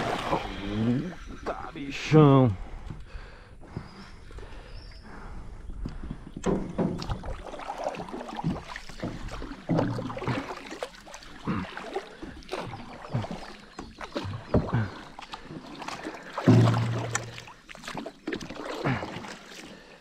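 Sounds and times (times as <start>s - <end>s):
water splashing and lapping: 0.0s - 2.0s, 2.6s - 20.0s.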